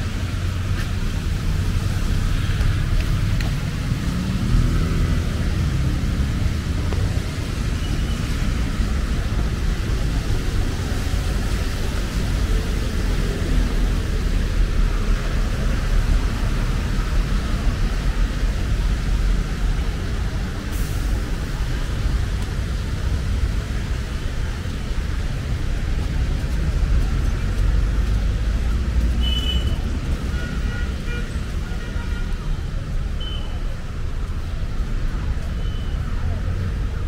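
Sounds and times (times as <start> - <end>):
city street traffic hum: 0.0 - 37.0.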